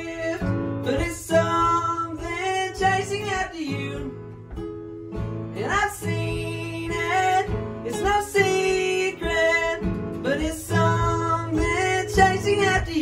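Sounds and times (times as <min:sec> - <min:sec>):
man singing: 0:00.0 - 0:04.2, 0:05.6 - 0:13.0
acoustic guitars strumming: 0:00.0 - 0:13.0.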